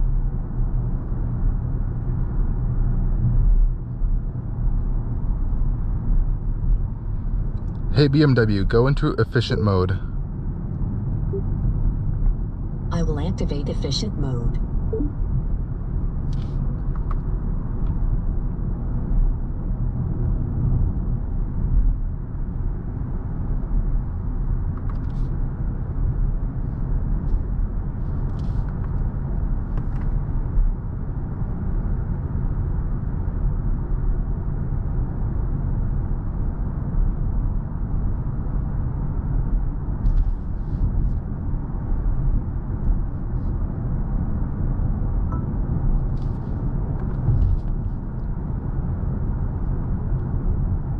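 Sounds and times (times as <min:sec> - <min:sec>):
road and tyre rumble: 0:00.0 - 0:50.9.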